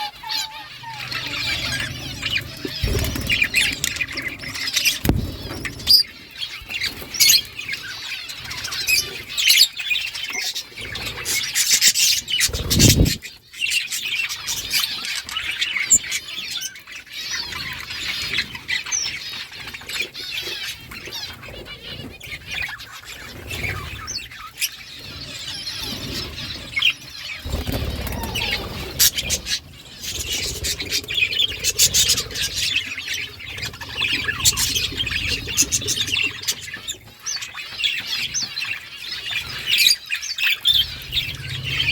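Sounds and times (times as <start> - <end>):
budgerigars chattering and chirping: 0.0 - 41.9.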